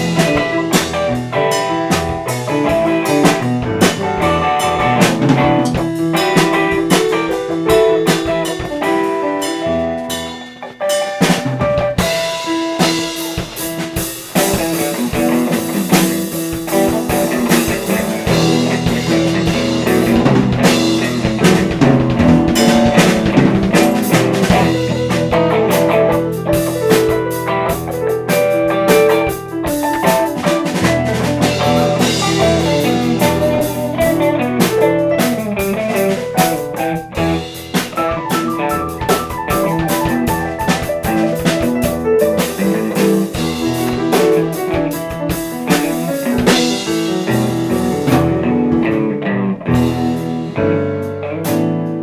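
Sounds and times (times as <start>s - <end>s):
band music with drums: 0.0s - 52.0s.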